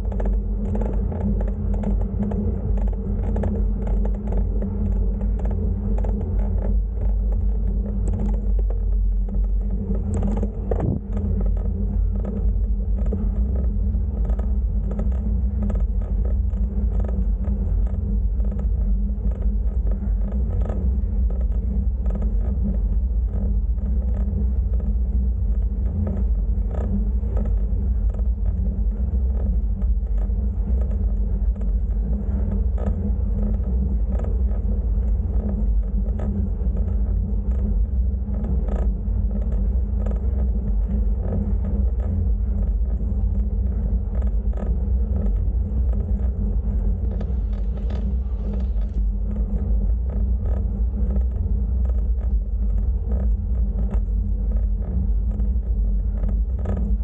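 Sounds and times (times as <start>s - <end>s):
bicycle creaks and rattles: 0.0s - 57.0s
bicycle rumbling on road: 0.0s - 57.0s.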